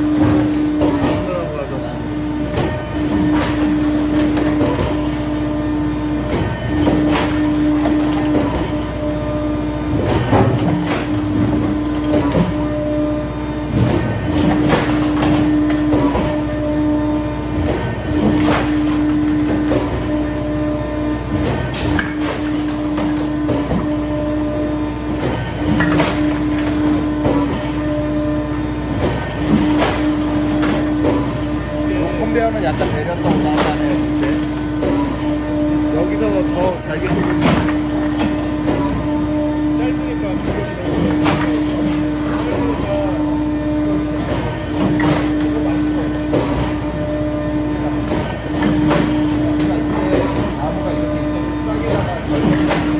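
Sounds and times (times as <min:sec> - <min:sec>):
motor and pump humming: 0:00.0 - 0:52.9.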